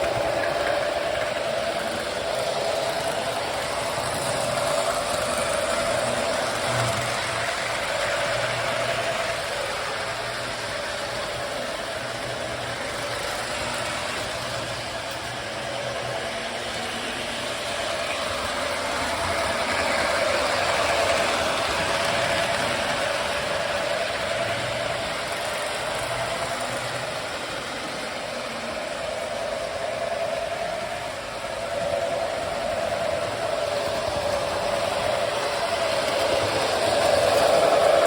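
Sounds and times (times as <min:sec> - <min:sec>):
toy train motor whir: 0:00.0 - 0:38.0
wheel and rail rattle: 0:00.0 - 0:38.0.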